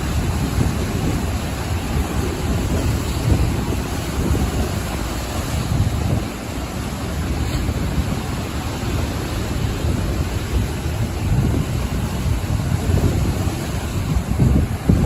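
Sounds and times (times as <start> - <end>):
ocean waves washing ashore: 0.0 - 15.0
wind rumbling on microphone: 0.0 - 15.0.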